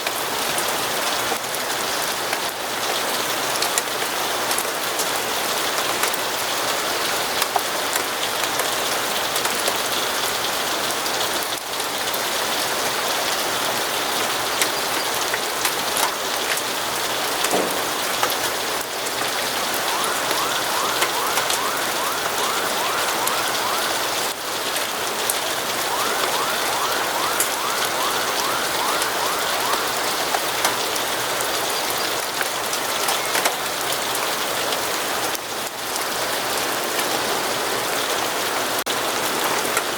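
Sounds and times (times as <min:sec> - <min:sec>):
rain against windows: 0:00.0 - 0:39.9.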